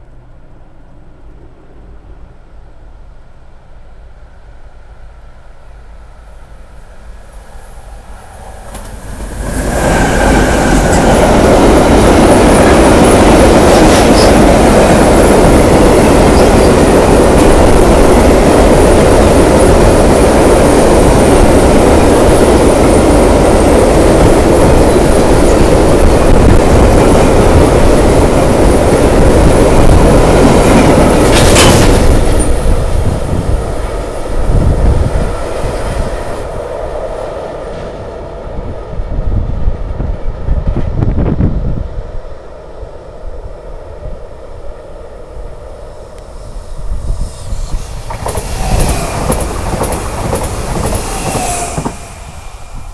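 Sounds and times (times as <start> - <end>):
train wheels on rails: 6.2 - 41.7, 44.0 - 52.9.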